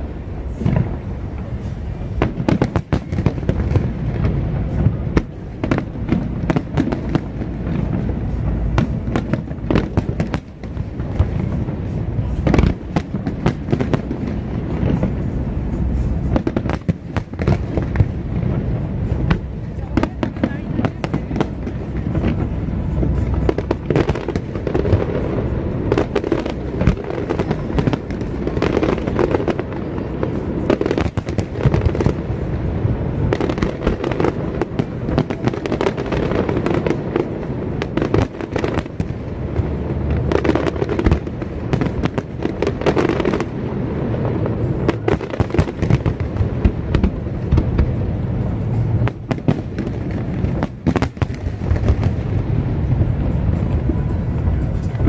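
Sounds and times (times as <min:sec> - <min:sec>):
low rumble: 0:00.0 - 0:55.0
fireworks bangs and pops: 0:00.4 - 0:55.0.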